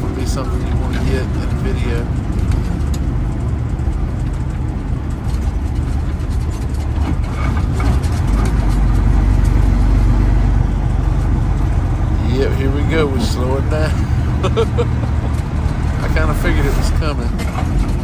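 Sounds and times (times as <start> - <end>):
road noise: 0.0 - 18.0
truck diesel engine rumble: 0.0 - 18.0.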